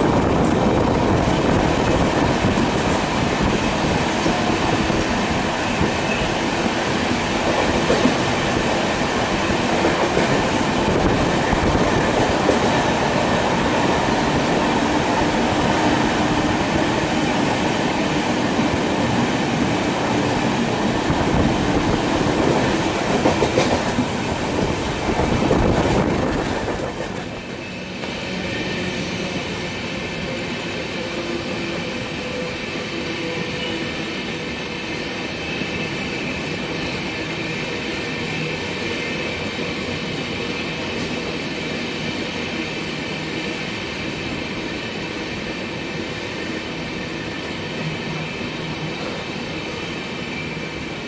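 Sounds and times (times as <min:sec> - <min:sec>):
train wheels rolling on rails: 0:00.0 - 0:51.0.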